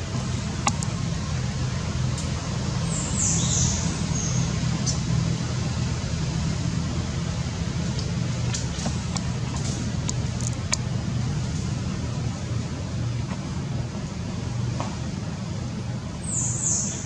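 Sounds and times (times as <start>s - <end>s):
distant road traffic rumble: 0.0s - 17.0s.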